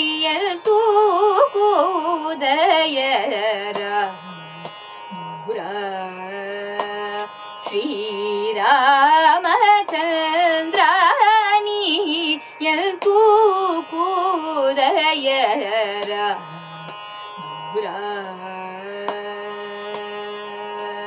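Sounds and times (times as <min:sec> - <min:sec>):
woman singing ornamented melody: 0:00.0 - 0:21.0.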